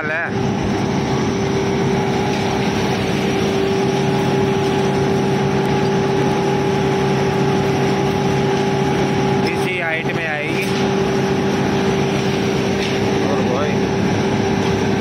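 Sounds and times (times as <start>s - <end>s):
mill machinery droning: 0.0s - 15.0s.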